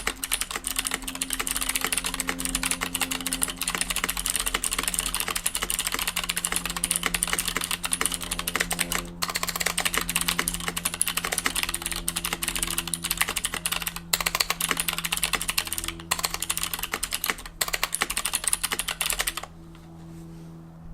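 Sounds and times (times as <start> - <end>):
mechanical keyboard typing: 0.0 - 19.5
faint steady hum: 0.0 - 20.9.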